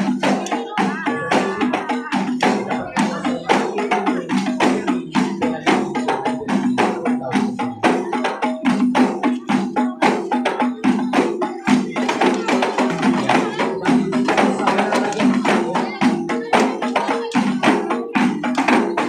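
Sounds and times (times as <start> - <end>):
frame drums beaten by hand: 0.0 - 19.0.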